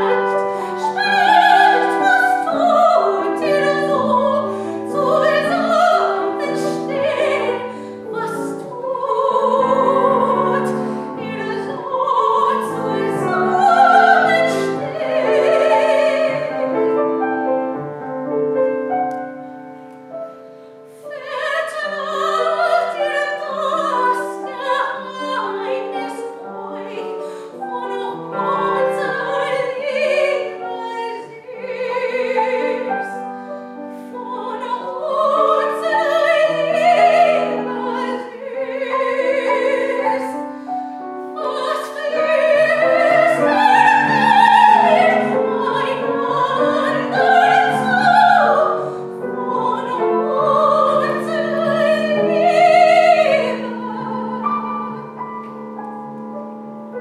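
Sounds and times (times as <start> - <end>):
woman singing operatically: 0.0 - 16.7, 21.1 - 33.2, 34.1 - 40.4, 41.4 - 55.1
grand piano: 0.0 - 57.0.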